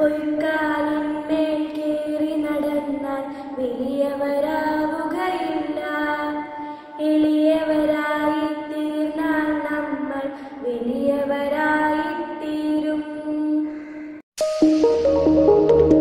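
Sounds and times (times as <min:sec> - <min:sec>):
child singing: 0:00.0 - 0:13.9.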